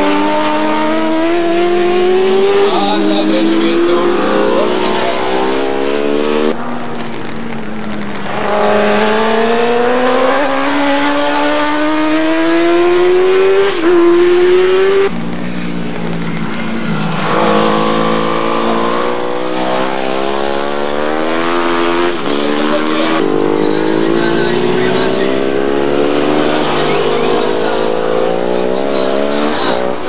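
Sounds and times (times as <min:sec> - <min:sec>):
motorcycle engine accelerating: 0:00.0 - 0:30.0
second motorcycle engine: 0:00.0 - 0:30.0.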